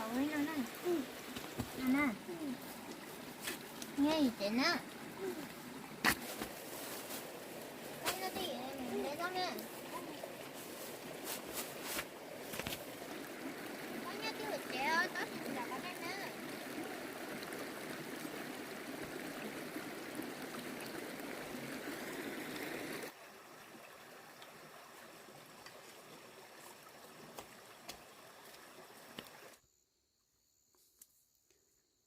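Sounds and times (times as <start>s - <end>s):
water rushing: 0.0s - 29.6s.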